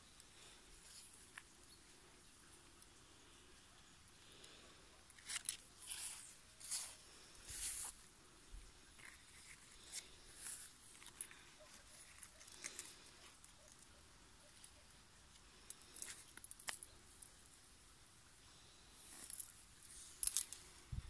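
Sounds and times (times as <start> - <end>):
grass and leaves rustling: 0.0 - 17.8, 18.5 - 21.0.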